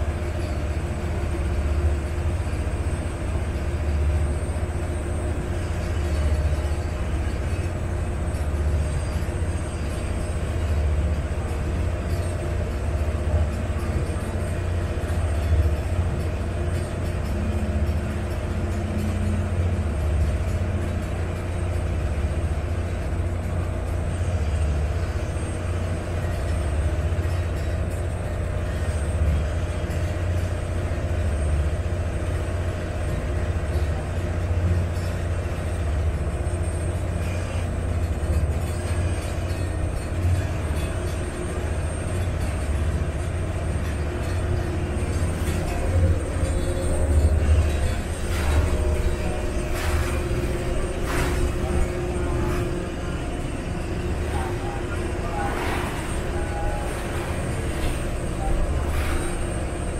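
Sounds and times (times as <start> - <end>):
boat diesel engine drone: 0.0 - 59.9.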